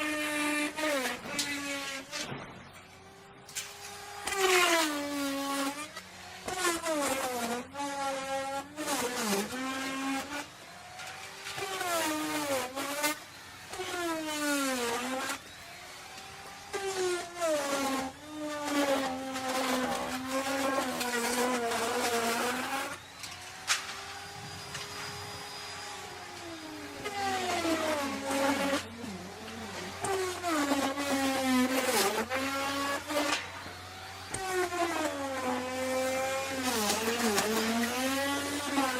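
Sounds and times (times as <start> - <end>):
electric router cutting wood: 0.0 - 38.9.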